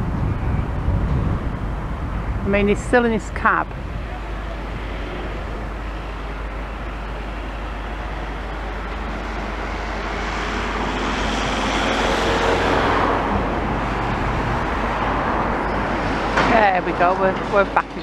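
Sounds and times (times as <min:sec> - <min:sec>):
road traffic noise: 0:00.0 - 0:18.0
vehicle passing close: 0:00.0 - 0:18.0.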